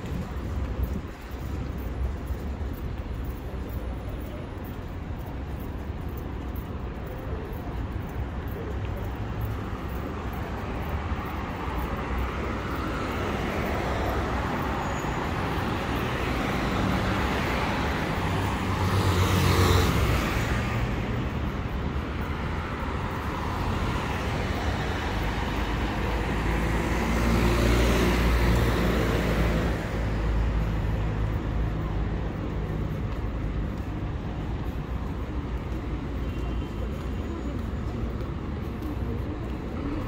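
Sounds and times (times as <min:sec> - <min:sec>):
hum of city traffic: 0:00.0 - 0:40.0.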